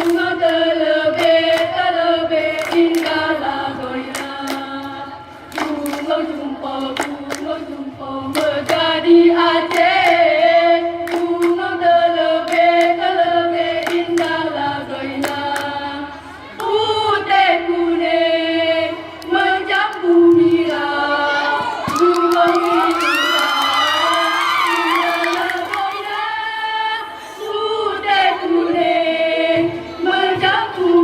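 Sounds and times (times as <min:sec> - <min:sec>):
choir singing: 0:00.0 - 0:23.3, 0:24.0 - 0:31.0.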